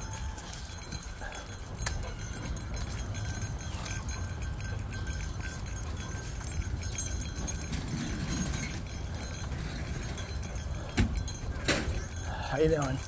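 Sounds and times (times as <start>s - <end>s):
dog collar tags jingling: 0.0s - 13.0s.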